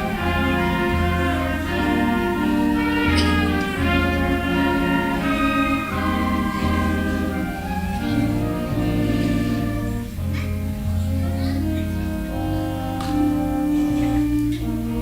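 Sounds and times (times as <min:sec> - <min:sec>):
band playing sustained chords: 0:00.0 - 0:15.0.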